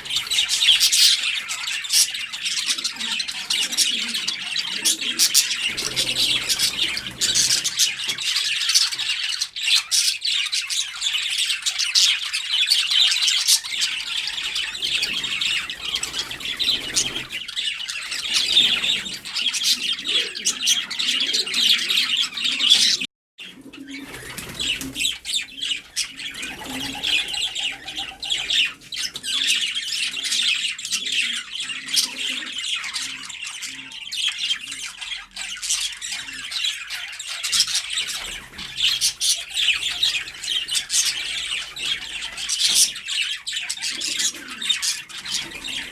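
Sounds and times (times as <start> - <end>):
birds chirping and squawking: 0.0 - 45.9.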